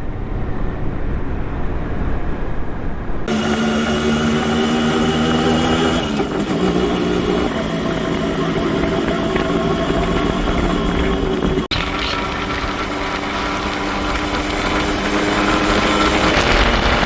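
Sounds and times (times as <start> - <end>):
wind and road noise: 0.0 - 17.0
motorcycle engine running: 3.3 - 17.0.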